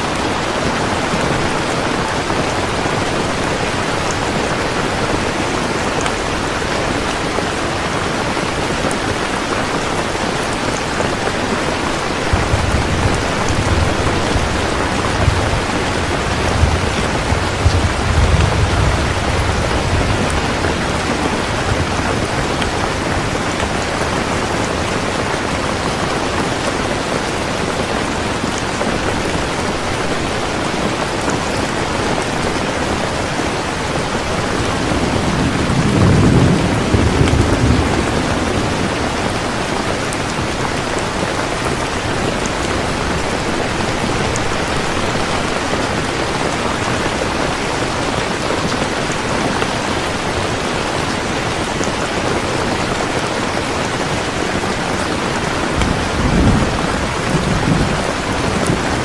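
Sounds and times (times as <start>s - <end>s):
heavy rain: 0.0s - 59.0s
thunder rumbling: 9.4s - 52.9s, 54.0s - 59.0s.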